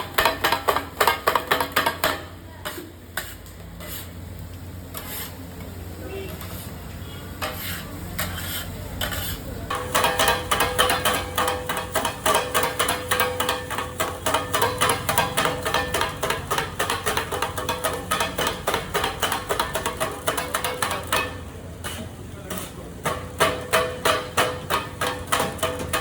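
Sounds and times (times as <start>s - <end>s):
metal spatulas clanging on griddle: 0.0s - 4.1s, 4.9s - 5.3s, 6.4s - 26.0s.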